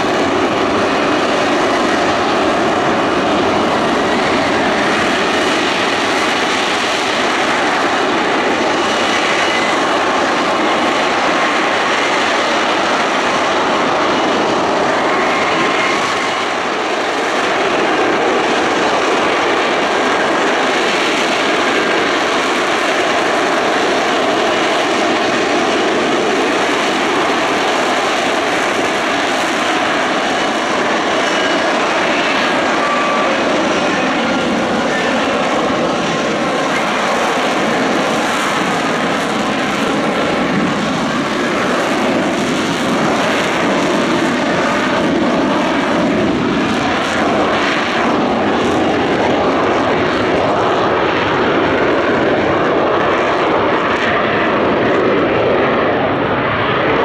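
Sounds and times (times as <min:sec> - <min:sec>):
loud jet engine noise: 0:00.0 - 0:57.0.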